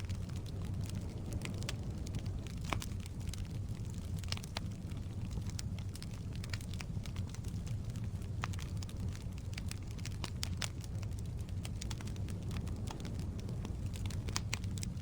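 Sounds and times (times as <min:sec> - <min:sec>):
fire low rumble: 0:00.0 - 0:15.0
firewood crackling and popping: 0:00.0 - 0:15.0.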